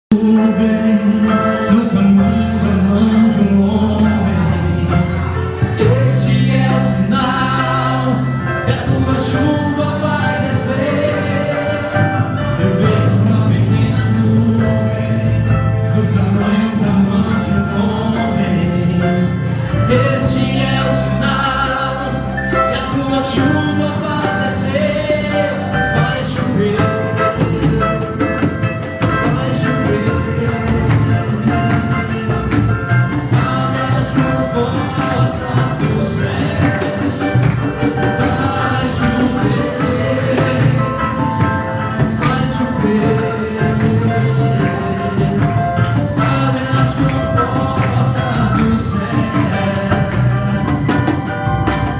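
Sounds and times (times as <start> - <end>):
band playing: 0.1 - 51.9
fast percussion: 0.1 - 51.9
group singing: 0.1 - 51.9.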